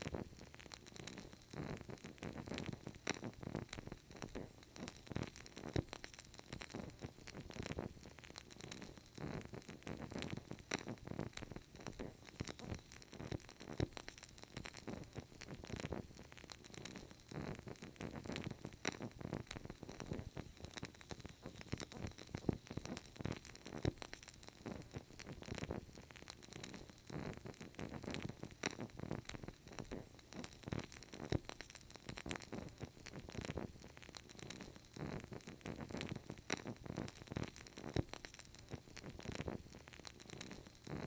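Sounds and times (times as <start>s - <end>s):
candle crackling: 0.0s - 41.0s.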